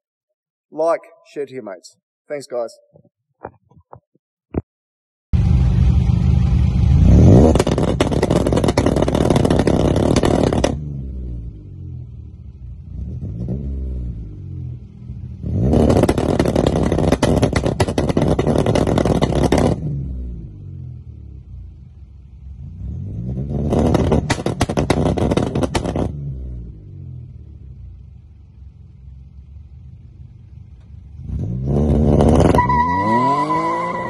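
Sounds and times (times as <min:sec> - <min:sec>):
car engine revving: 0:05.4 - 0:34.0.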